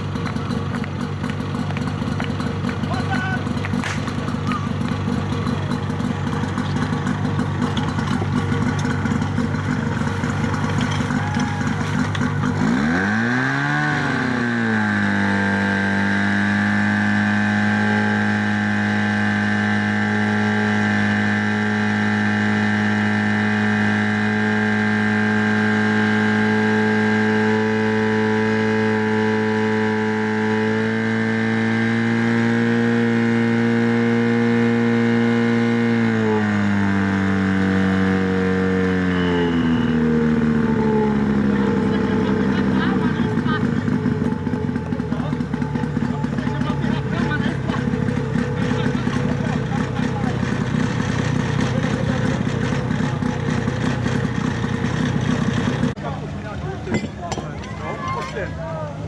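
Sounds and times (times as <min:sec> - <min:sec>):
pump engine revving: 0:00.0 - 0:59.0.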